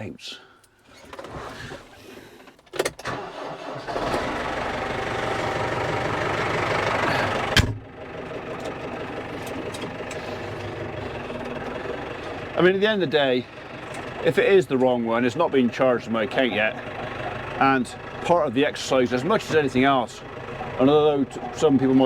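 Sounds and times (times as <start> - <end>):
tractor diesel engine running: 1.0 - 22.0.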